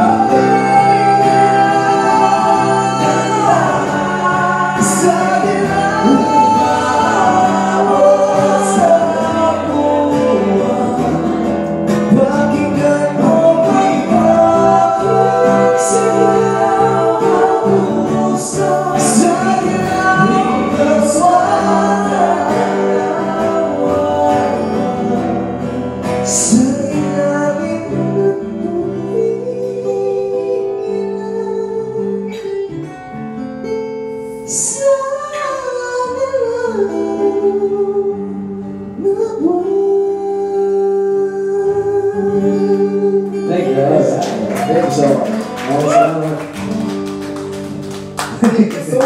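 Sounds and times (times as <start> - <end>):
person singing slow song: 0.0 - 33.1, 34.0 - 46.4
strummed acoustic guitar: 0.0 - 49.0.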